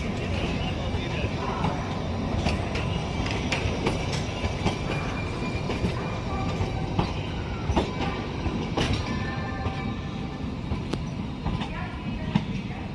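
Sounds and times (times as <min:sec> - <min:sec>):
train rumbling on rails: 0:00.0 - 0:12.9.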